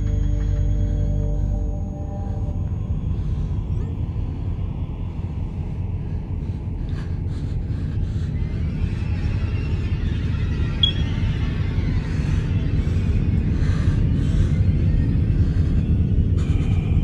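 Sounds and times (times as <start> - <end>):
high eerie tones: 0.0 - 17.0
low rumbling drone: 0.0 - 17.0.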